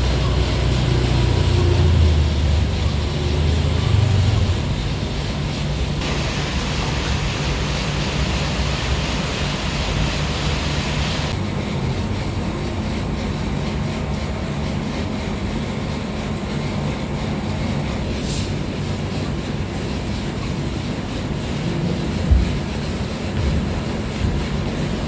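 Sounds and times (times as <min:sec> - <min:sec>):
moving vehicle rumble and hiss: 0:00.0 - 0:25.0.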